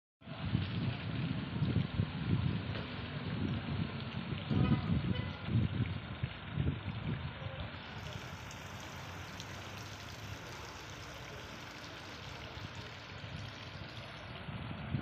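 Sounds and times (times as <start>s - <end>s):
fountain water splashing: 0.3s - 15.0s.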